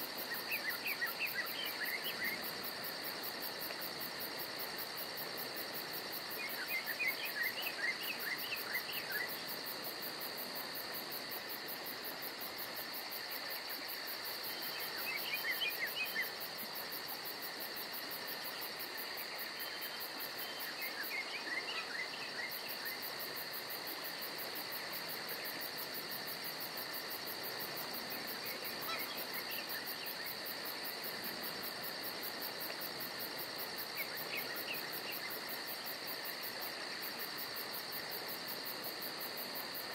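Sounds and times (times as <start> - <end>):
crickets and insects droning: 0.0 - 39.9.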